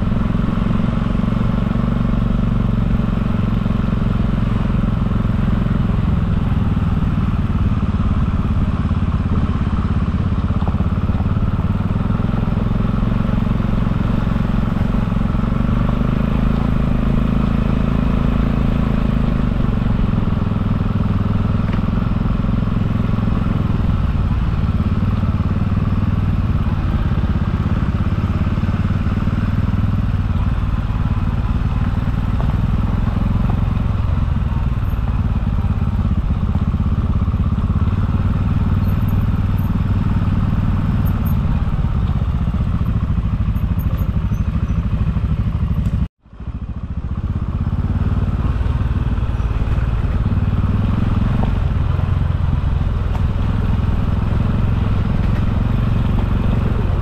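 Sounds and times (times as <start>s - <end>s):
motorcycles rumbling: 0.0s - 57.0s.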